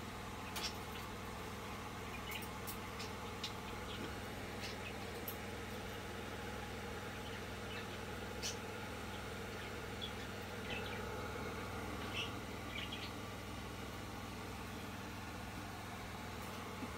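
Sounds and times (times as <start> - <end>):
aquarium air pump hum: 0.0 - 16.9.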